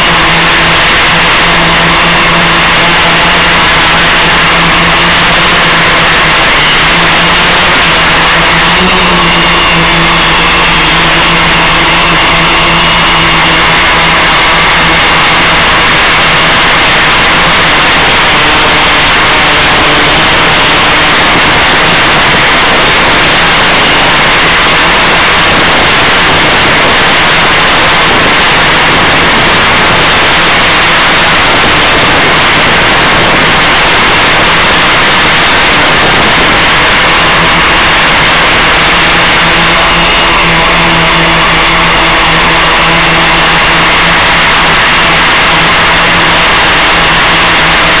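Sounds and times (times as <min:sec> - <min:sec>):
loud rushing hiss: 0:00.0 - 0:48.0.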